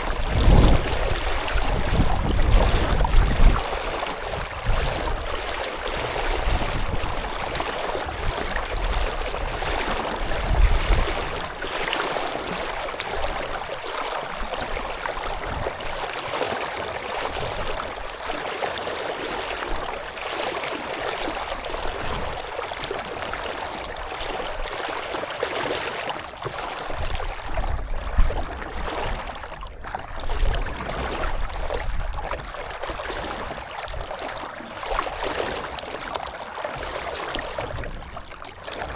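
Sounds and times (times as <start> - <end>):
water rushing and splashing: 0.0 - 38.9.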